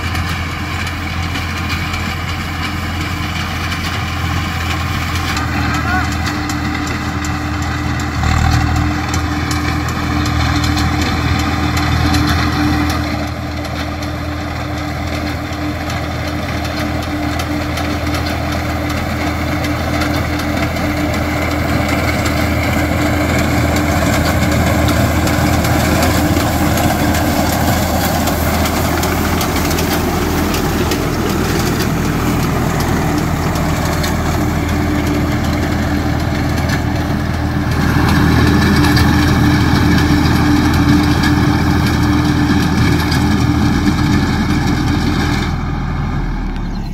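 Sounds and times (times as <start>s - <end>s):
tractor diesel engine running: 0.0s - 46.9s
reaper binder cutting wheat: 0.1s - 45.4s.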